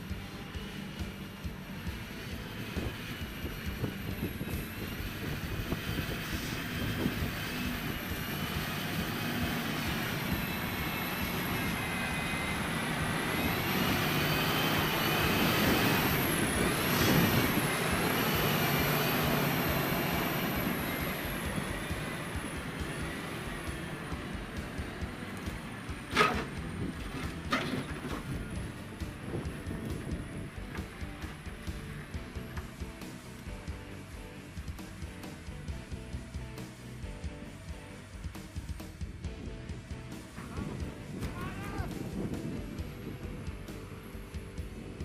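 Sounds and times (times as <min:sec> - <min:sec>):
truck diesel engine under load: 0:00.0 - 0:37.7
high whine: 0:00.0 - 0:45.0.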